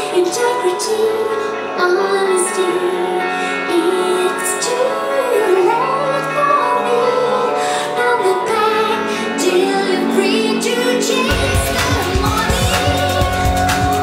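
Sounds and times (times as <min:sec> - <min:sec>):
soft musical backing: 0:00.0 - 0:14.0
woman singing slow melody: 0:00.0 - 0:14.0.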